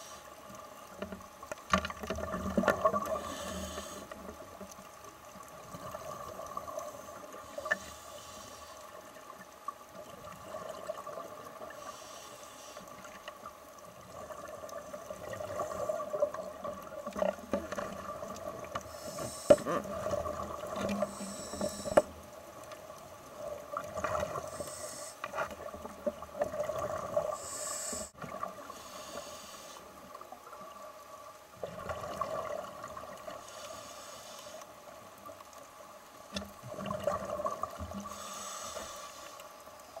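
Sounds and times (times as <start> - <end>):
hissy water noise: 0.0 - 40.0
underwater drone: 0.0 - 40.0.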